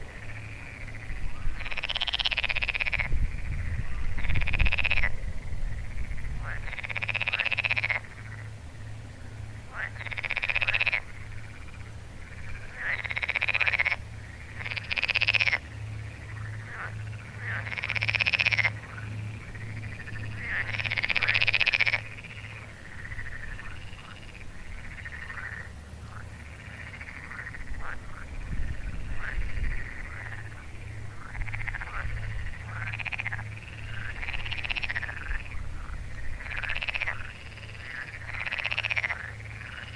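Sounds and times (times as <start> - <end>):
frogs croaking: 0.0 - 39.9
low steady pulsing: 0.0 - 39.9.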